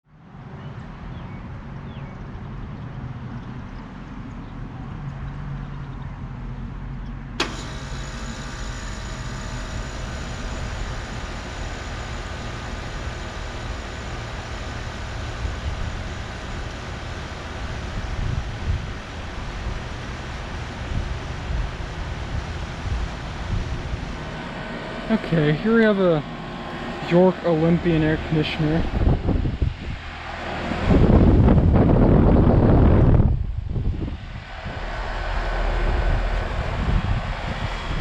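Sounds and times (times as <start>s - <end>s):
air conditioner humming: 7.4s - 38.0s
whining tones: 7.4s - 38.0s.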